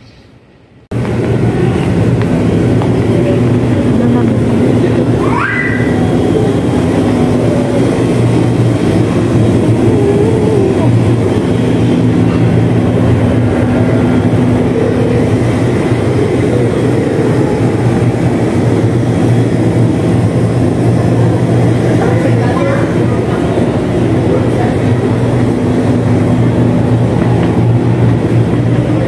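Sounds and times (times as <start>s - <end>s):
low rumble with hum: 0.7s - 29.0s.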